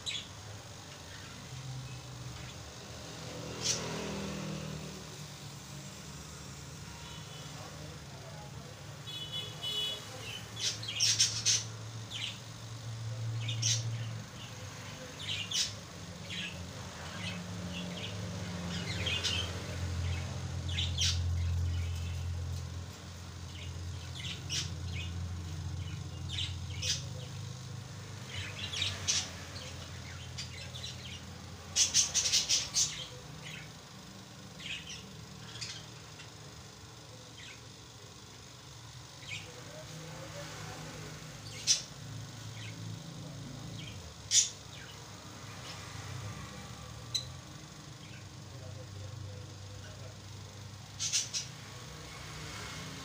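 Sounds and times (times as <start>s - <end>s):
lovebirds chirping: 0.0s - 53.0s.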